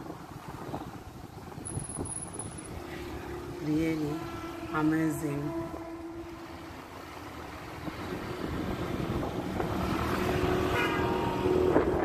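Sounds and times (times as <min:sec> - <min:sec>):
scooter road noise: 0:00.0 - 0:12.0
wind buffeting microphone: 0:00.0 - 0:12.0.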